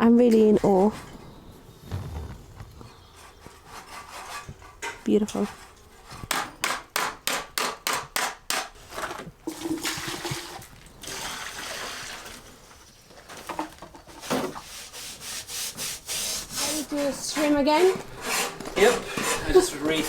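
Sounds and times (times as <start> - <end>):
hand tool scraping rough surface: 0.4 - 7.0, 8.7 - 20.0.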